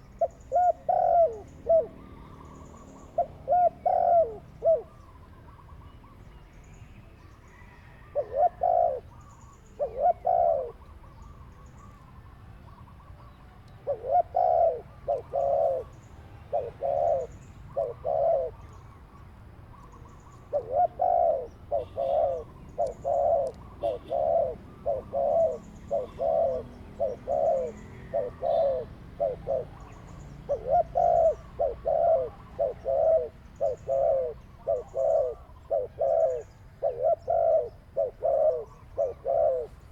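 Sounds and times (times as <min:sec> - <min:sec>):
dove cooing: 0:00.0 - 0:06.2, 0:07.5 - 0:12.0, 0:12.7 - 0:19.1, 0:19.7 - 0:39.9
small birds chirping: 0:00.0 - 0:39.9.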